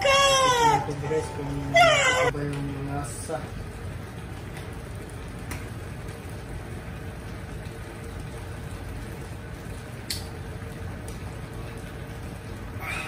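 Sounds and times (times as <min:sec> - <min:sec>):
broth bubbling in a pot: 0:02.3 - 0:13.0.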